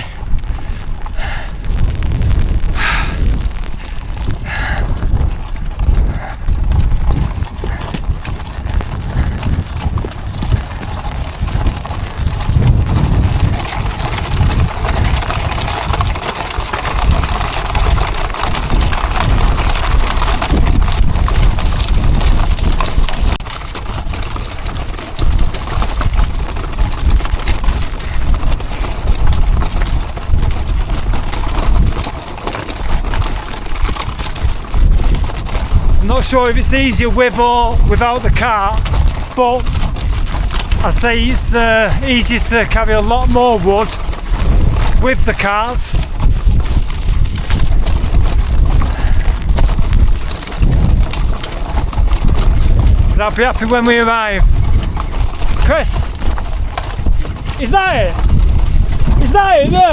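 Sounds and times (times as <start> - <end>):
cart rattling over rough track: 0.0 - 59.9
footsteps crunching: 0.0 - 59.9
wind buffeting microphone: 0.0 - 59.9.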